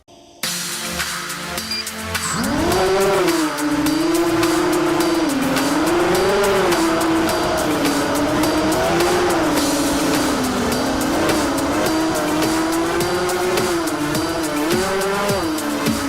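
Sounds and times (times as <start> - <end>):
music playing: 0.0 - 16.0
quadcopter motors whining: 1.7 - 16.0.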